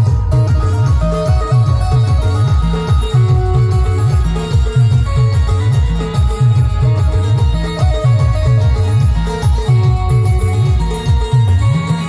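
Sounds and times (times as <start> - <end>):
loud live band music: 0.0 - 12.0.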